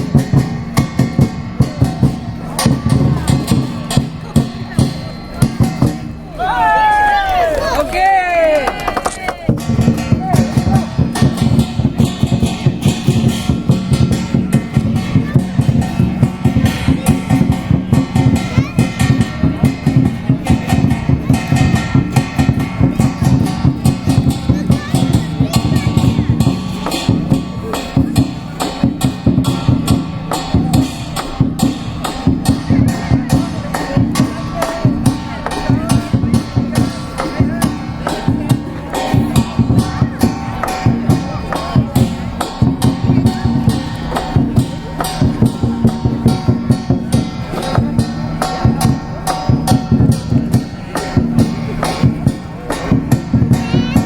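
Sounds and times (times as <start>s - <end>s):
cymbals clashing: 0.0s - 6.6s, 9.1s - 54.0s
big drum beaten fast: 0.0s - 7.0s, 8.0s - 54.0s.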